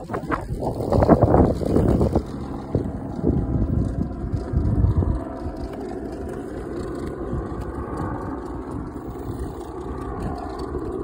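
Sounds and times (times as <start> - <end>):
faint motor whine: 0.0 - 11.0
skateboard rolling on pavement: 0.0 - 11.0
wind buffeting microphone: 0.0 - 11.0.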